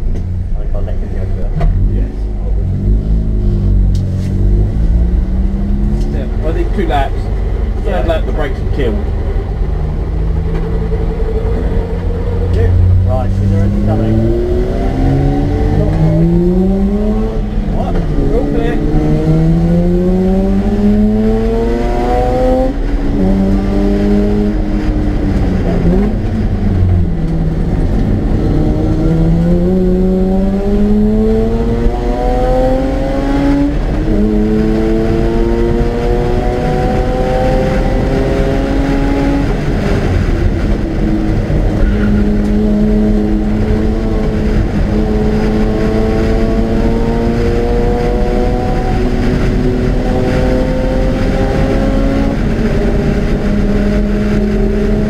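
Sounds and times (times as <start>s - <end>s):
road noise: 0.0s - 55.0s
wind noise: 0.0s - 55.0s
rotary engine racing: 4.4s - 55.0s.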